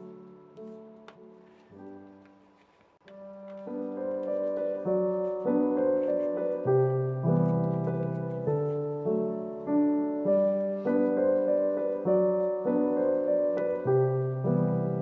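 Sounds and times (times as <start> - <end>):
gentle instrumental music: 0.0 - 15.0.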